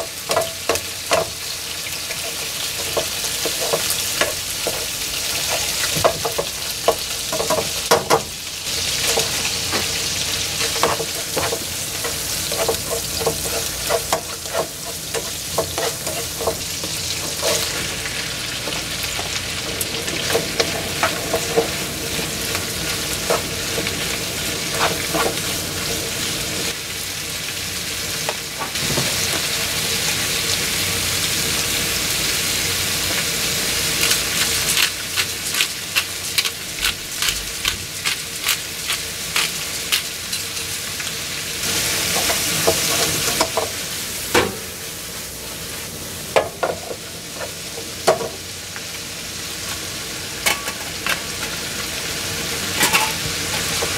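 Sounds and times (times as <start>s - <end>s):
fish sizzling in oil: 0.0s - 53.9s.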